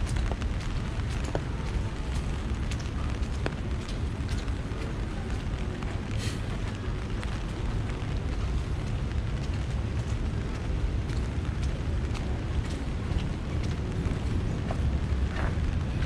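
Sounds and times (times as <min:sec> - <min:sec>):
rain: 0:00.0 - 0:16.0
wind noise on microphone: 0:00.0 - 0:16.0.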